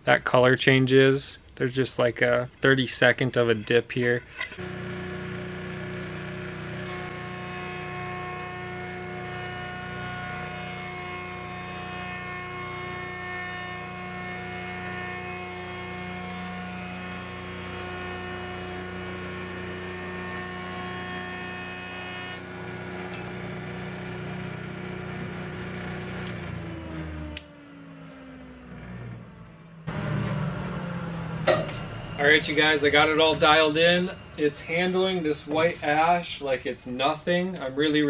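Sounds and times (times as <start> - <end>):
jointer cutting wood: 4.5 - 36.6.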